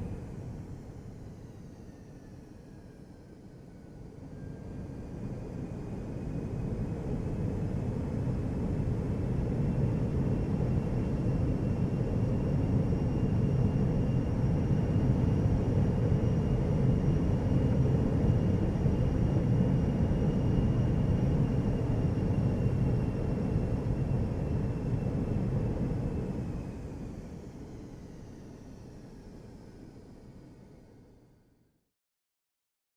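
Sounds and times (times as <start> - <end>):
jet engine rumble and turbine whine: 0.0 - 31.8.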